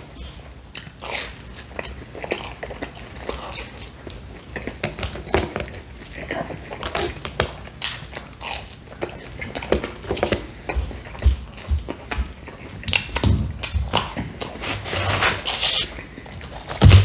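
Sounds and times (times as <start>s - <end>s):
chewing crunchy crust: 0.0s - 17.0s.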